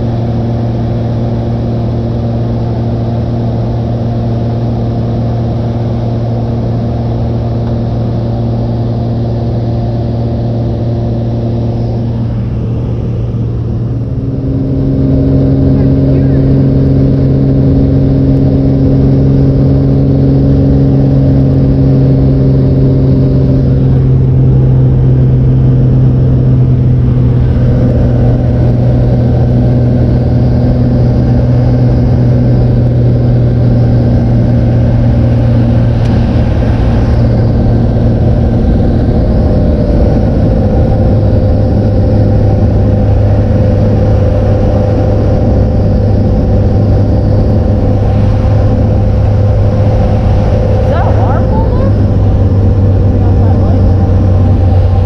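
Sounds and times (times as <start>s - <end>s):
floatplane engine droning: 0.0s - 55.0s.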